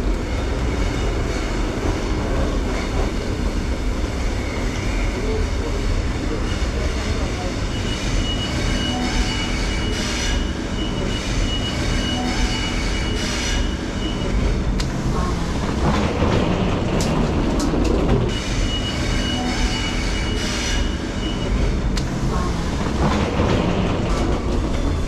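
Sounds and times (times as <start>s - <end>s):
train rumbling on rails: 0.0s - 25.0s
wheel and rail noise: 0.0s - 25.0s.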